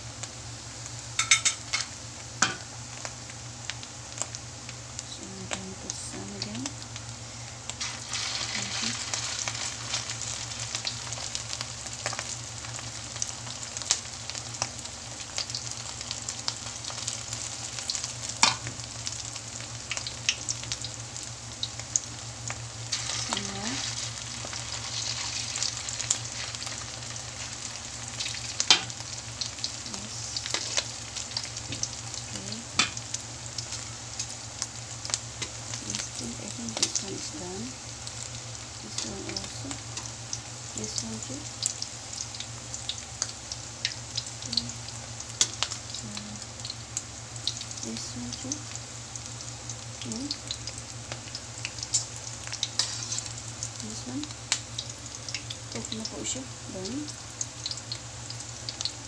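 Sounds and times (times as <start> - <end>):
patties sizzling in oil: 0.0 - 59.0.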